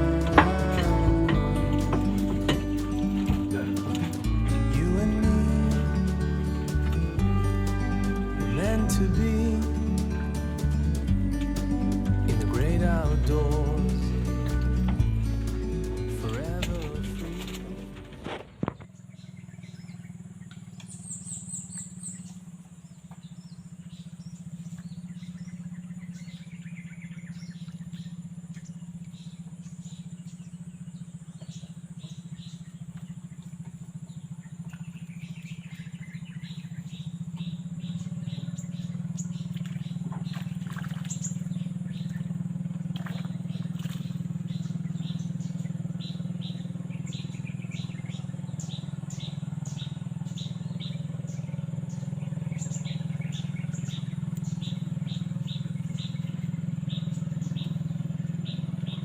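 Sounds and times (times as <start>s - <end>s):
birds chirping: 0.0s - 59.0s
small engine running: 0.0s - 59.0s.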